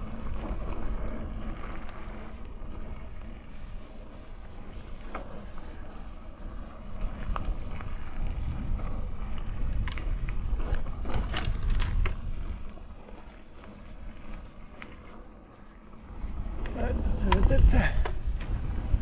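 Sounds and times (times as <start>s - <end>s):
bike rattling over rough ground: 0.0s - 19.0s
bike tyre rumble: 0.0s - 19.0s
wind on microphone: 0.0s - 19.0s.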